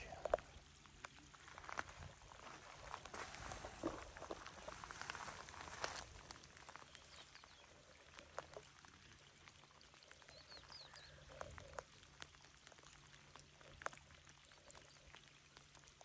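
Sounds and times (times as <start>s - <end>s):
light rain dripping: 0.0s - 16.0s.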